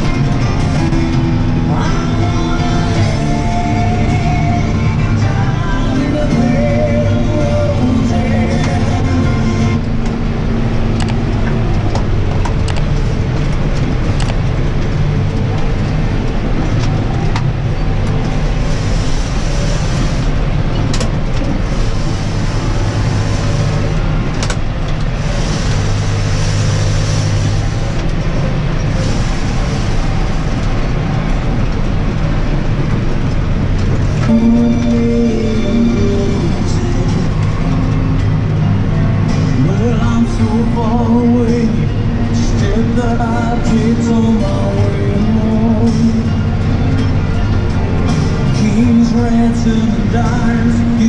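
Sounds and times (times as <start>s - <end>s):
tractor engine running under load: 0.0s - 51.0s.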